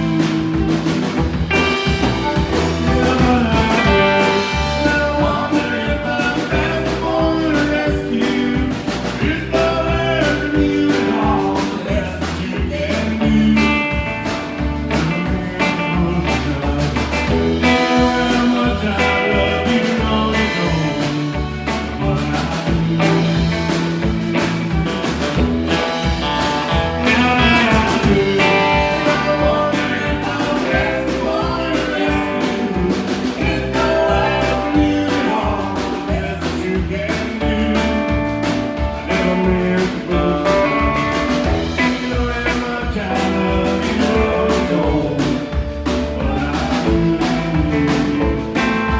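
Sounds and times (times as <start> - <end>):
person singing: 0.0 - 24.9, 27.0 - 48.9
steady drum beat: 0.0 - 48.9.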